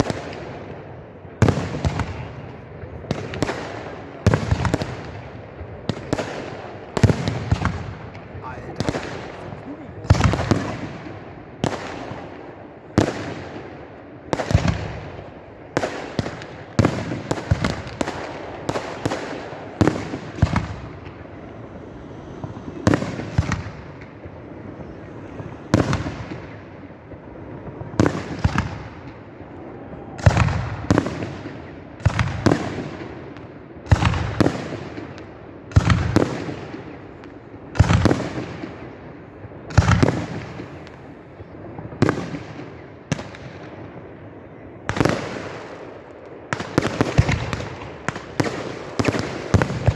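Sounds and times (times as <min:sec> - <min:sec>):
crackling firework reports: 0:00.0 - 0:49.9.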